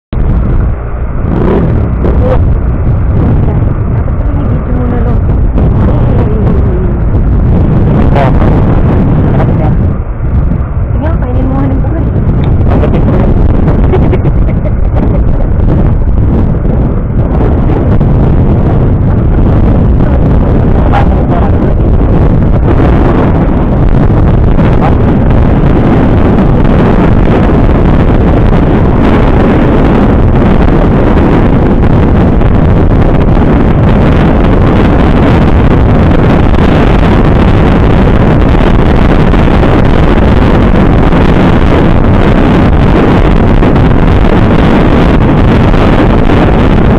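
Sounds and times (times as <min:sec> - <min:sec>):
vehicle engine and road noise: 0:00.0 - 0:46.9
wind rushing over microphone: 0:00.0 - 0:46.9.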